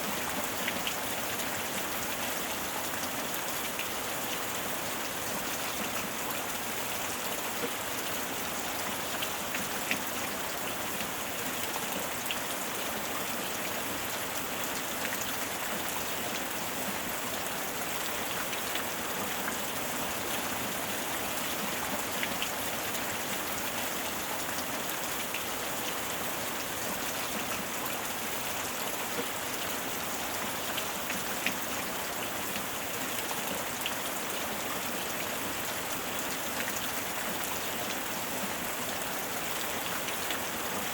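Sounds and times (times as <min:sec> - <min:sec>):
heavy rain on hard surface: 0:00.0 - 0:40.9.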